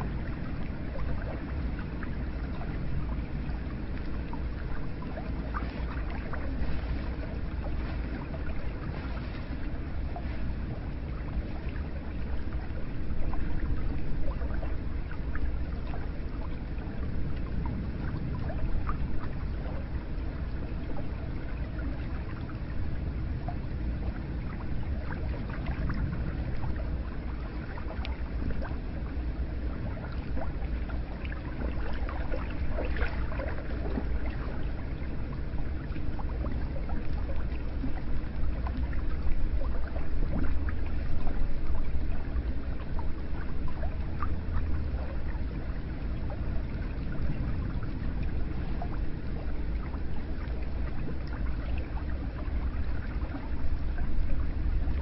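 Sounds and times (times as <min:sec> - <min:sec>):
water rushing and gurgling: 0:00.0 - 0:55.0.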